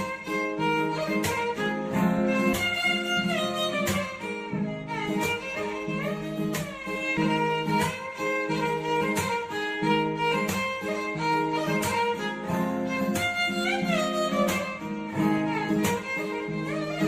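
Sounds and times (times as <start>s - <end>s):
plucked accompaniment: 0.0s - 17.0s
regular beat: 0.0s - 17.0s
sustained strings: 0.0s - 17.0s
violin melody: 0.0s - 17.0s.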